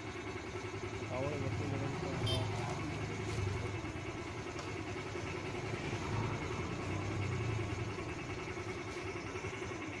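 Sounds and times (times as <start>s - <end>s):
vehicle engine drone: 0.0s - 10.0s.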